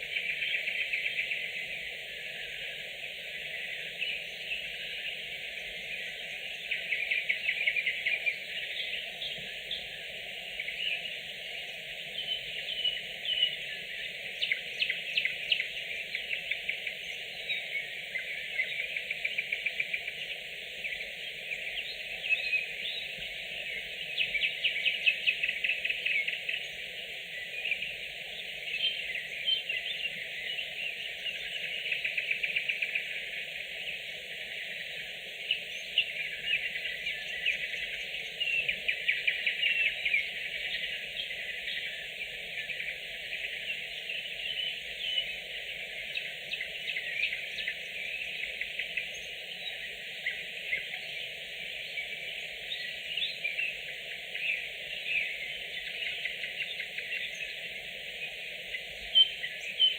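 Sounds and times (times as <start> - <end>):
nightingales singing: 0.0 - 59.9.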